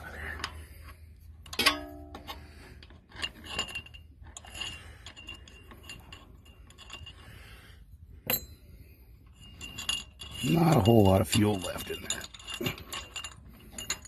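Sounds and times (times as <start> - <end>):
metallic clicks and scrapes: 0.0 - 14.0.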